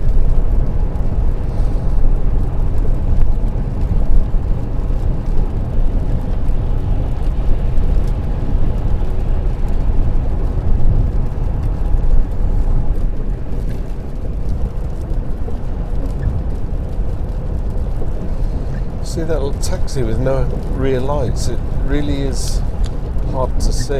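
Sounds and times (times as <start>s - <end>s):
tyre and engine rumble: 0.0s - 23.9s.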